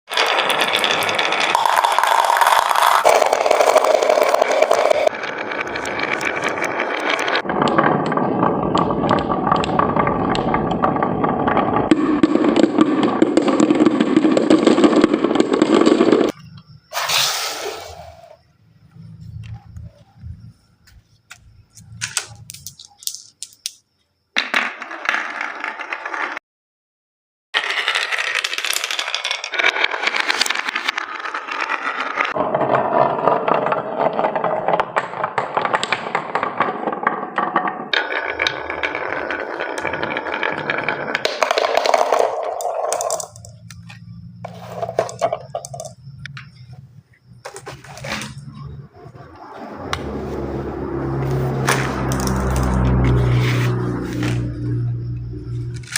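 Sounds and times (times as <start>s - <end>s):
marbles rattling down wooden track: 0.1s - 16.4s, 21.8s - 23.8s, 24.4s - 26.4s, 27.6s - 46.8s, 47.4s - 49.4s, 51.0s - 54.9s.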